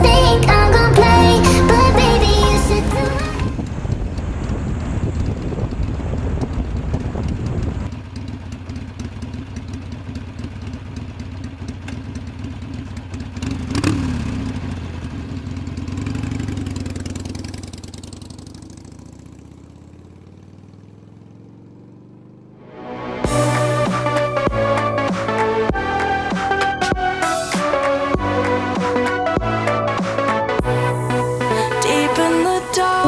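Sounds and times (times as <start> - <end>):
motorcycle engine running: 0.0 - 22.6, 23.3 - 27.2.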